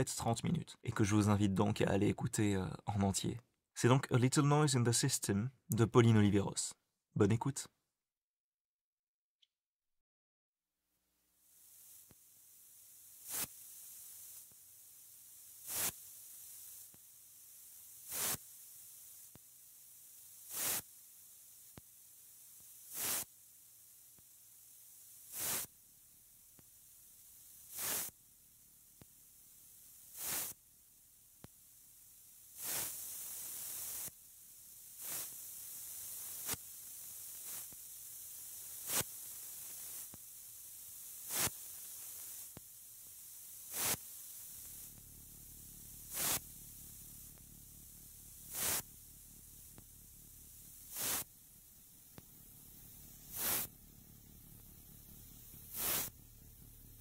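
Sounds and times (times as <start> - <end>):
bursts of filtered noise hiss: 0.0 - 7.7, 11.4 - 57.0
faint steady hiss: 0.0 - 7.7, 11.2 - 57.0.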